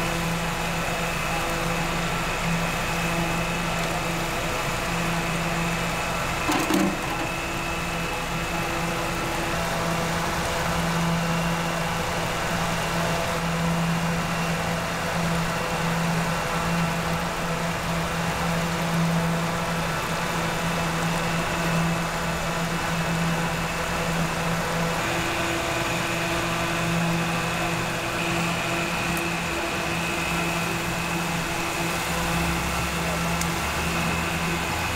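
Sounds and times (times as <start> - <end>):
motor humming with faint whine: 0.0 - 34.9.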